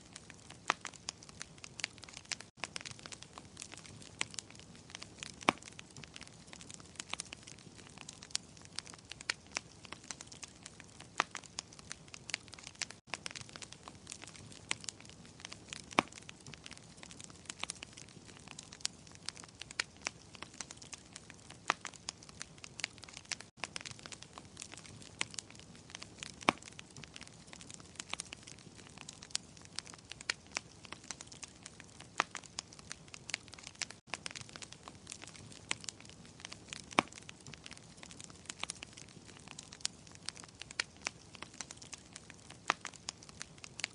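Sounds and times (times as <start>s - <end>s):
sharp pops and snaps: 0.0s - 43.9s
wood fire crackling: 0.0s - 43.9s.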